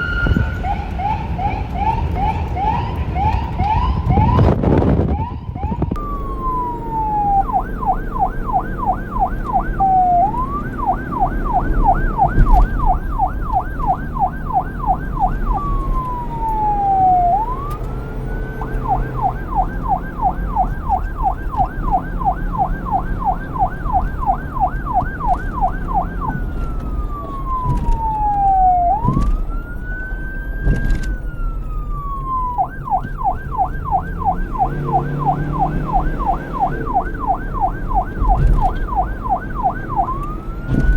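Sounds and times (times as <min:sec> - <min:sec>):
police siren: 0:00.0 - 0:40.9.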